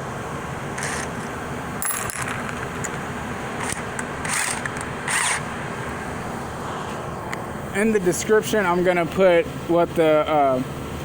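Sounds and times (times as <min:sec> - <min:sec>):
steady shop hum: 0:00.0 - 0:11.0.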